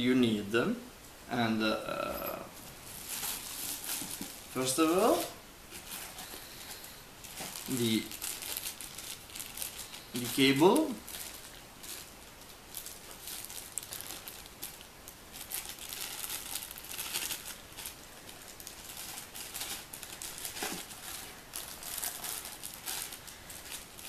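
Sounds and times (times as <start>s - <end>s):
plastic bags crinkling: 2.2s - 24.0s.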